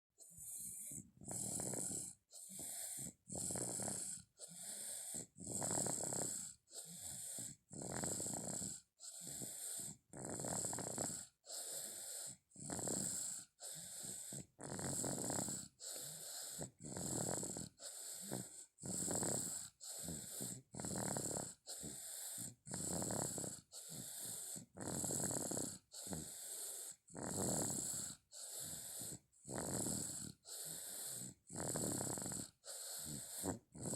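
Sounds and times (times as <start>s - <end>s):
toddler snoring: 0.2s - 33.9s.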